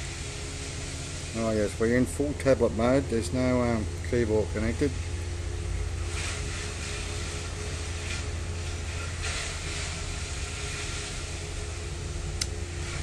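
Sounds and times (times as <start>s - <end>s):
mechanical hum and hiss: 0.0s - 13.0s.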